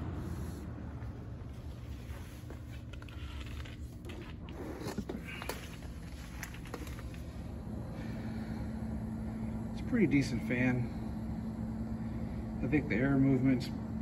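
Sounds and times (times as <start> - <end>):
box fan running: 0.0 - 14.0.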